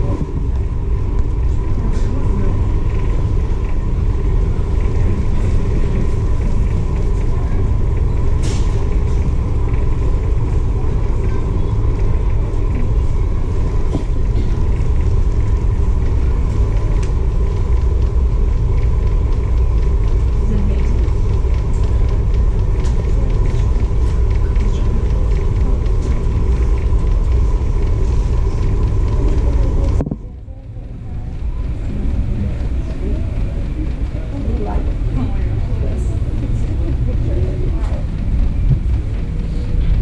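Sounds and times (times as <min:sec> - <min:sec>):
faint steady hum: 0:00.0 - 0:40.0
ferry engines rumbling: 0:00.0 - 0:40.0.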